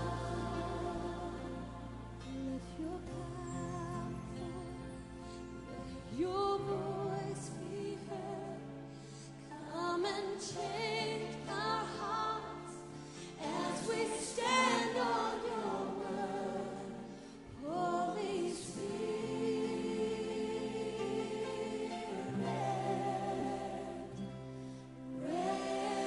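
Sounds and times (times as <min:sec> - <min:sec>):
voices singing worship song: 0:00.0 - 0:26.0.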